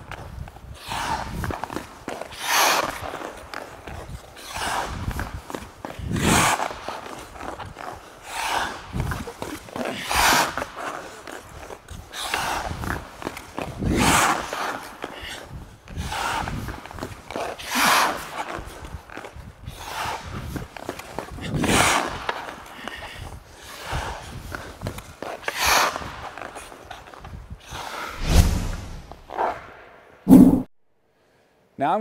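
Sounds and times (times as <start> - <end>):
skate blades scraping ice: 0.0 - 29.8
skating strides: 0.0 - 30.7.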